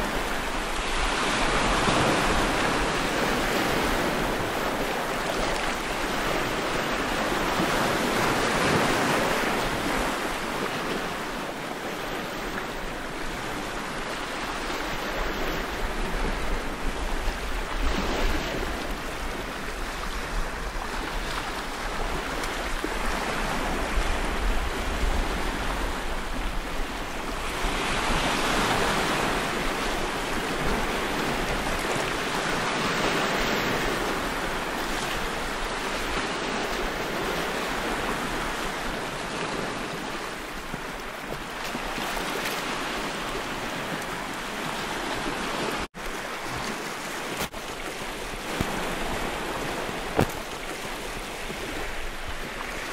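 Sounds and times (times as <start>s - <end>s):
waves washing over rocks: 0.0s - 52.9s.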